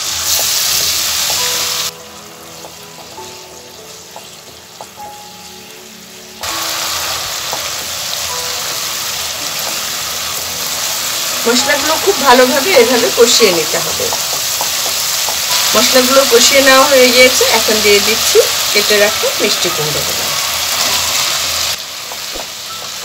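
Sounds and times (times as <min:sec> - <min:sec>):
masala sizzling in hot oil: 0:00.0 - 0:23.0
soft background music: 0:00.0 - 0:23.0.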